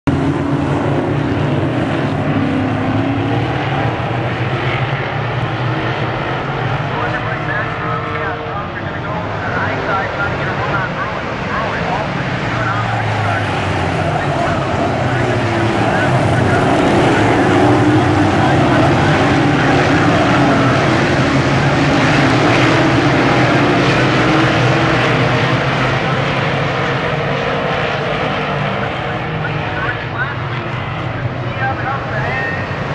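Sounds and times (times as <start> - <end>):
race car engines droning: 0.0 - 32.9.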